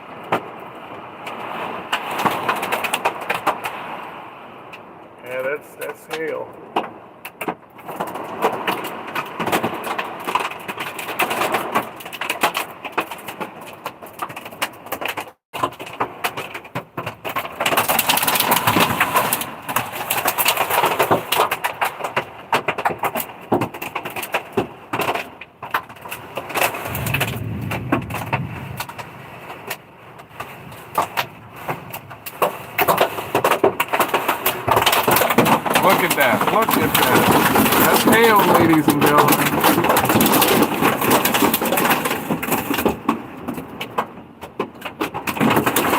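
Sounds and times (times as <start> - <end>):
hail and rain on truck roof: 0.2 - 4.1, 6.1 - 26.5, 30.7 - 45.9.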